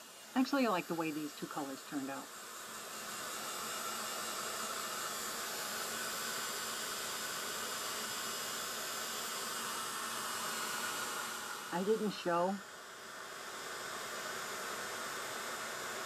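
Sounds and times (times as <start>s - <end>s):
heat gun blowing hot air: 0.0s - 16.0s.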